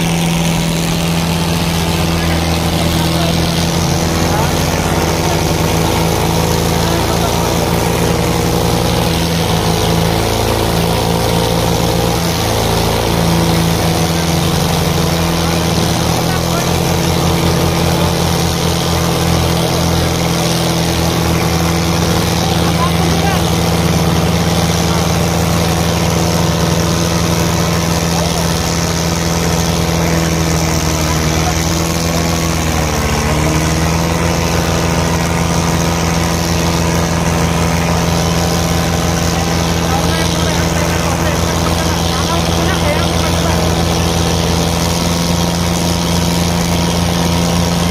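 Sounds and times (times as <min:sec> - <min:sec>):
tractor diesel engines running: 0:00.0 - 0:47.9.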